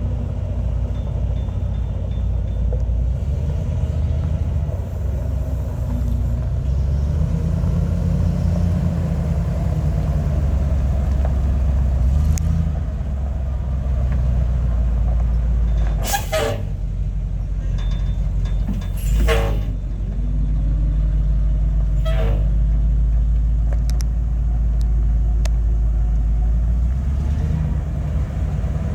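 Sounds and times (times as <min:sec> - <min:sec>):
truck engine low rumble: 0:00.0 - 0:28.9.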